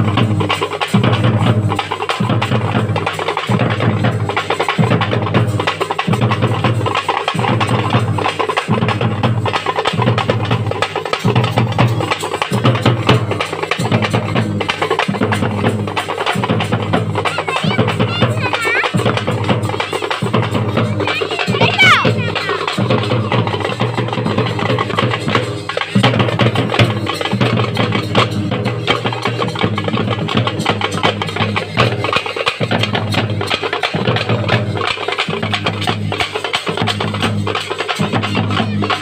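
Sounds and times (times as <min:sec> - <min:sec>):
frame drums beaten with sticks: 0:00.0 - 0:39.0.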